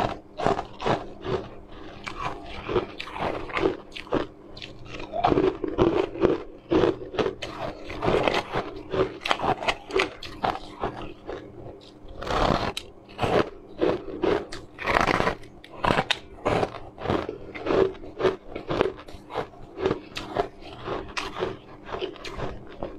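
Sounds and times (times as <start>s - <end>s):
ice crunching and chewing: 0.0s - 22.9s.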